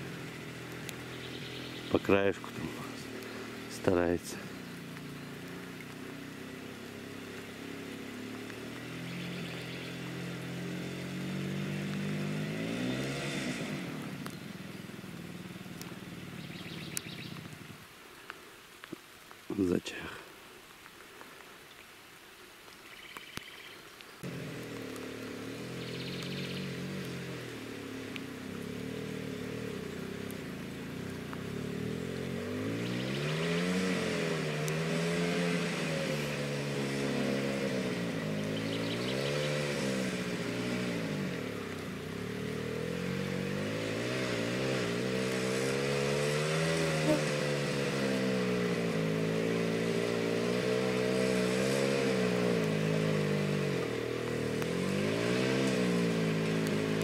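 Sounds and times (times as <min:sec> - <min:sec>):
motorcycle engine revving: 0:00.0 - 0:17.9, 0:24.2 - 0:57.0.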